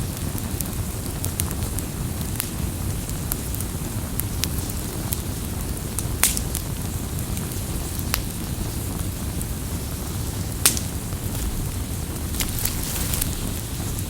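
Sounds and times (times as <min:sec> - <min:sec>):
fire crackling and popping: 0:00.0 - 0:14.0
flames rushing: 0:00.1 - 0:14.0.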